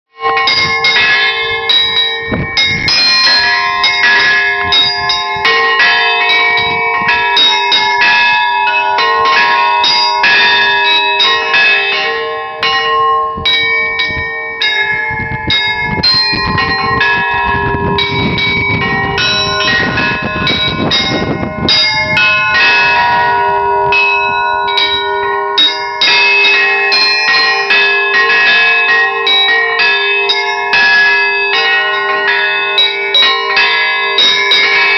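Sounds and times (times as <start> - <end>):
large bells ringing: 0.1 - 34.9
small church bells struck quickly: 0.1 - 34.9.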